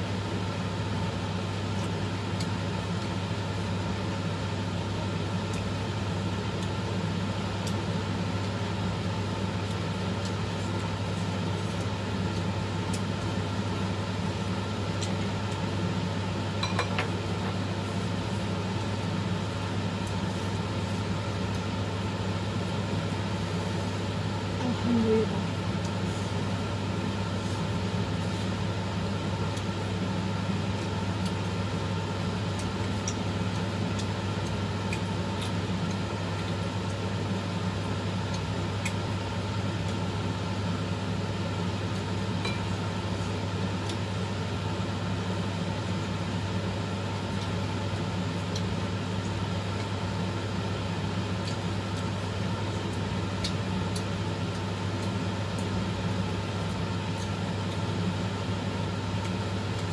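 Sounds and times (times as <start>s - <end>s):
steady motor hum: 0.0s - 59.9s.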